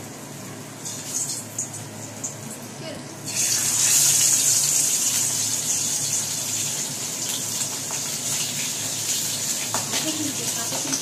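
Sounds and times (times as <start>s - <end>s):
fish sizzling in hot oil: 0.1s - 2.5s, 3.2s - 11.0s.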